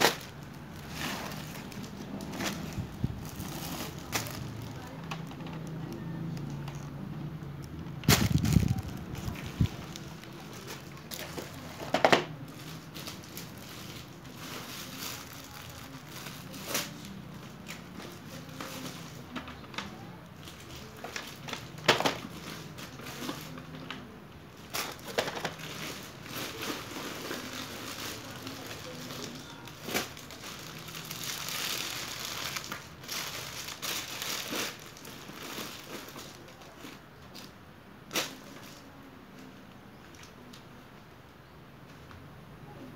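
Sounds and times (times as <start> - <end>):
plastic bags rustling and crinkling: 0.0 - 40.6.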